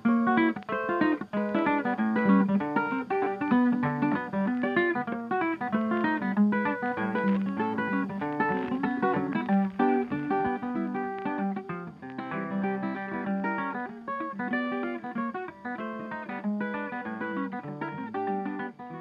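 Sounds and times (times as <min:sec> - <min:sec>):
plucked acoustic guitar tune: 0:00.0 - 0:19.0.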